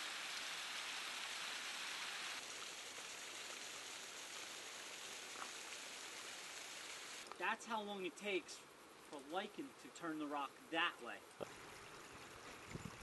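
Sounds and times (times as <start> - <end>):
rain and runoff on rock: 0.0 - 13.0.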